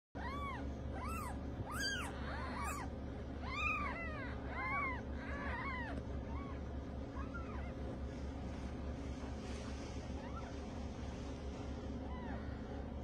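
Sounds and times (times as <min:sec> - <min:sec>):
kittens mewing: 0:00.2 - 0:13.0
steady low hum: 0:00.2 - 0:13.0.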